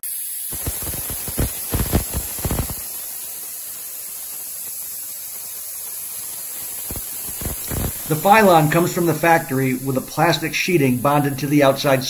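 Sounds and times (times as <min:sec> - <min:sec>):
spray gun hissing: 0:00.0 - 0:12.0.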